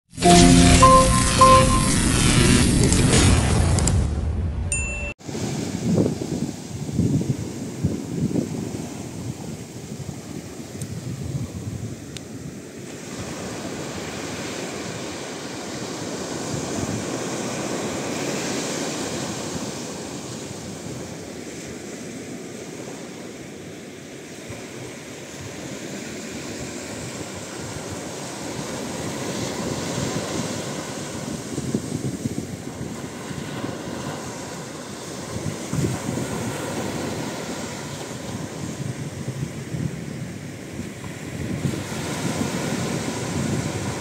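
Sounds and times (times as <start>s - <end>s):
small waves breaking on beach: 5.2s - 44.0s
wind on microphone: 5.3s - 21.4s, 24.5s - 44.0s.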